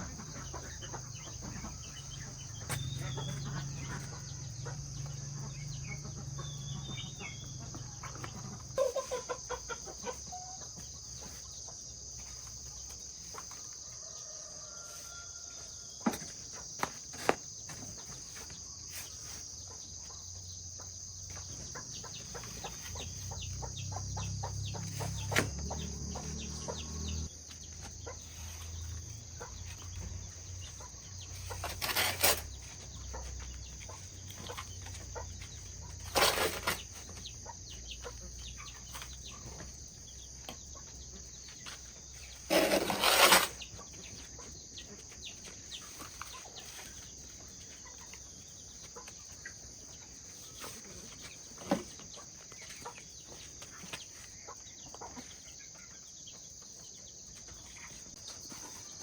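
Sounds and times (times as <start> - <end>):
chickens: 0.0 - 59.0.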